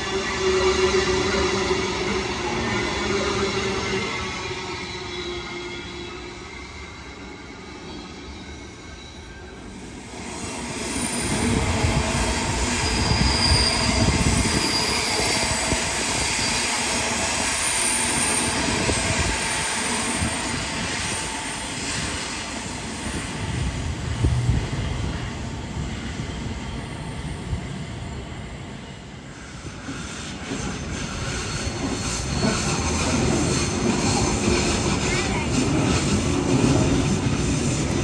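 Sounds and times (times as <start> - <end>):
train wheels squealing on rails: 0.0 - 38.0.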